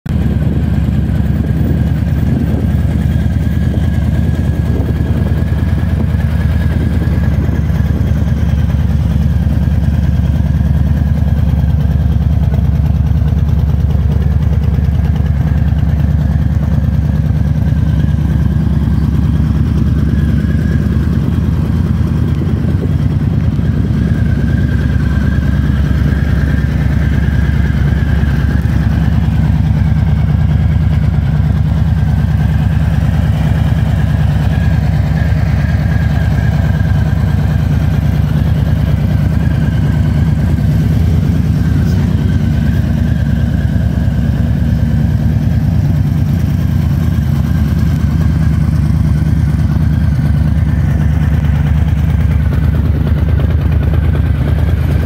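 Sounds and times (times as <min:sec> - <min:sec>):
motorcycle engine idling: 0:00.1 - 0:55.0.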